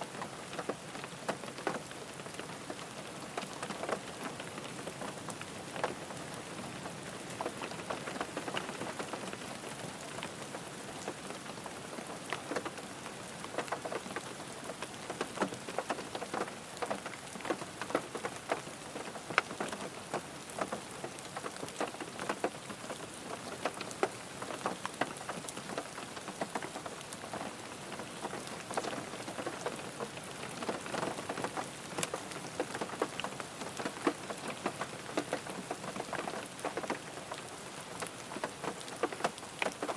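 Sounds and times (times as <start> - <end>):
rain falling on a car: 0.0 - 39.9.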